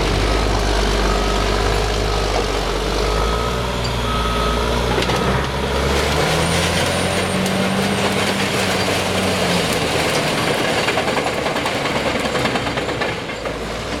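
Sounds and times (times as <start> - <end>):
bulldozer diesel engine running hard: 0.0 - 14.0.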